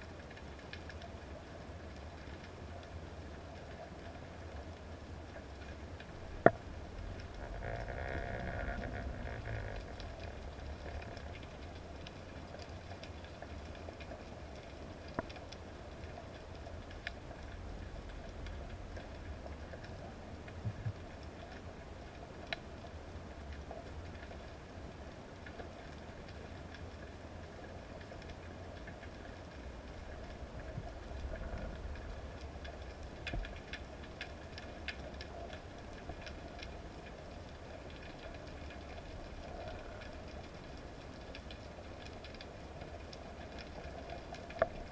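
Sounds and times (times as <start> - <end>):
faint clicks and crackles: 0.0 - 44.9
underwater low rumble: 0.0 - 44.9.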